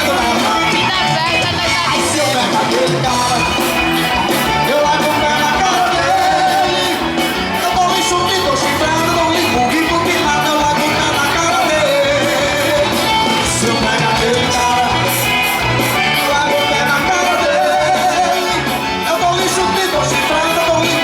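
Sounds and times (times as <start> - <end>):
person singing over a steady beat: 0.0 - 21.0.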